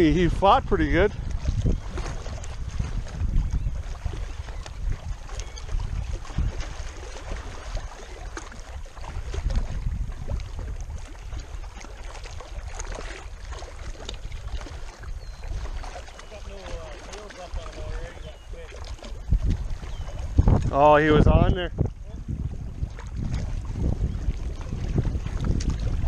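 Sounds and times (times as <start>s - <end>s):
water lapping against rocky shore: 0.0s - 26.0s
wind buffeting microphone: 0.0s - 26.0s.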